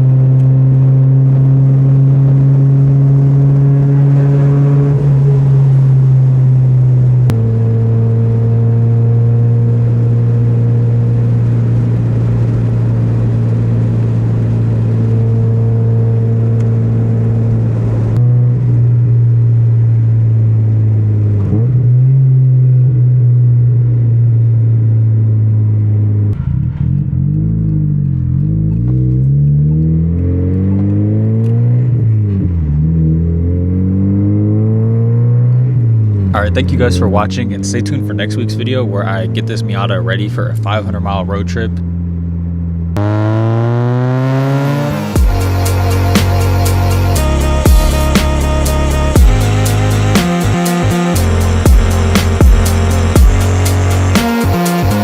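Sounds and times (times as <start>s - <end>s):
car engine running: 0.0s - 22.0s, 22.8s - 55.0s.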